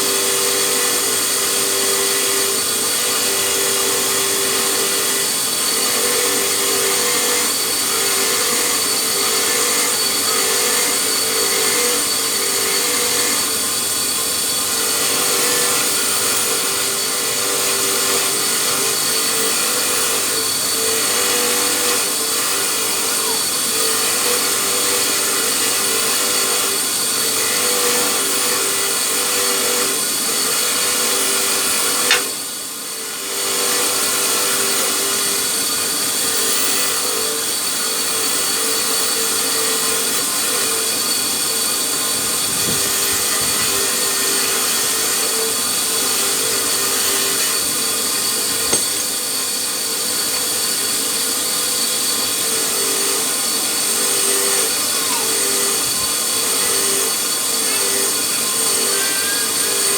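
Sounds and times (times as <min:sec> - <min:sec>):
electric power tool whining: 0:00.0 - 0:59.9.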